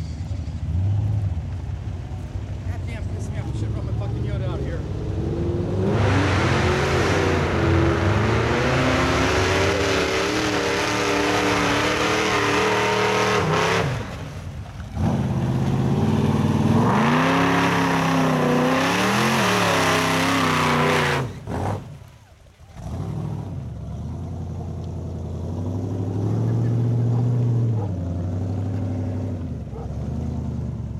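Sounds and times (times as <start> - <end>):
tires churning through mud: 0.0 - 30.9
truck engines revving: 0.0 - 30.9.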